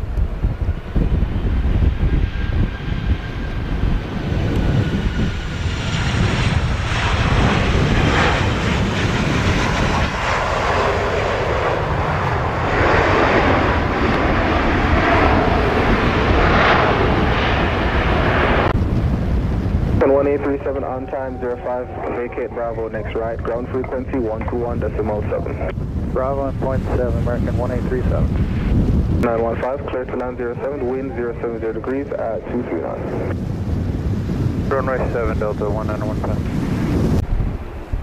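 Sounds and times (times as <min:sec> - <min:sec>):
jet engine roaring: 0:00.0 - 0:38.0
jet engine whine and rumble: 0:00.0 - 0:38.0.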